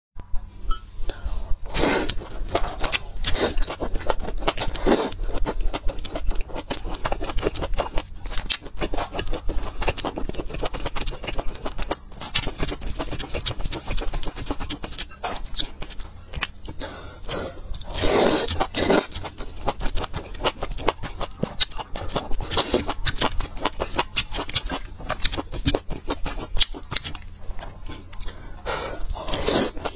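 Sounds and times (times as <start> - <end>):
moist chewing: 1.7 - 29.9.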